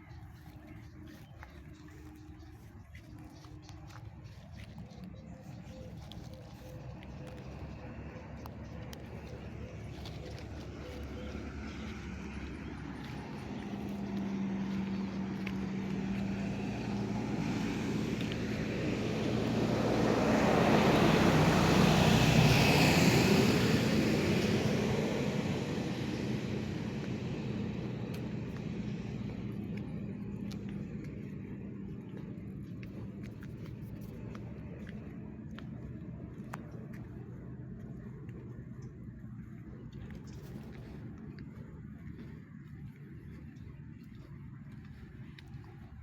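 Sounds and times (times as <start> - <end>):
aircraft flying over: 0.0 - 46.0.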